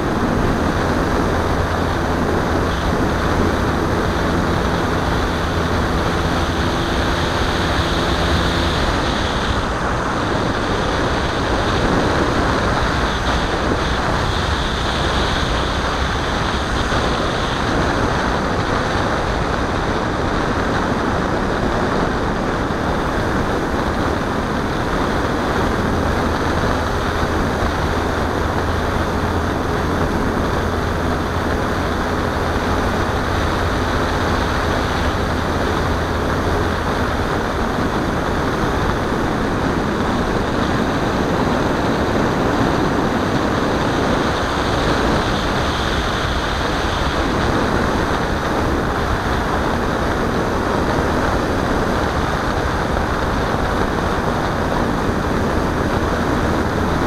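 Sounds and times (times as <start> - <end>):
faint propeller hum: 0.0 - 57.0
wind rush over microphone: 0.0 - 57.0.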